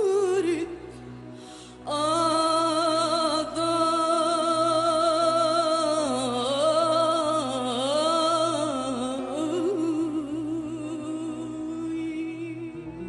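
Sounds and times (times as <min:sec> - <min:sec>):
woman singing into a microphone: 0:00.0 - 0:13.0.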